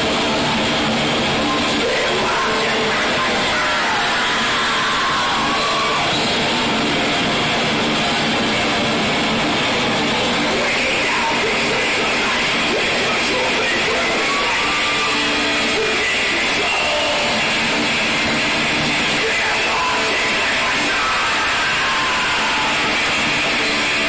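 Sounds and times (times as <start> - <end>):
thrash metal band playing live: 0.0 - 24.0.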